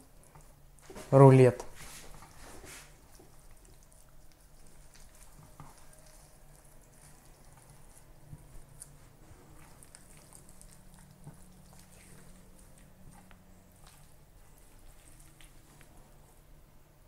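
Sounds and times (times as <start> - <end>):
low steady hum: 0.0 - 17.0
wet squelching of meat: 1.8 - 16.5.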